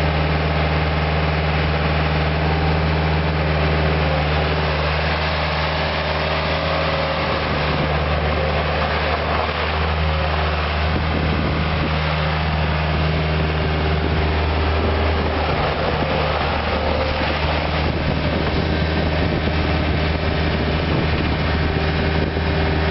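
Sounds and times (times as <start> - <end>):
diesel engine running steadily: 0.0 - 22.9.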